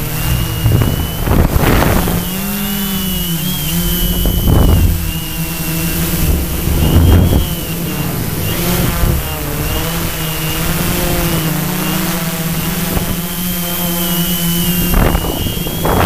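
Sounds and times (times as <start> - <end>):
wind gusts on microphone: 0.0 - 13.7, 14.4 - 16.0
drone motors and propellers: 0.0 - 16.0.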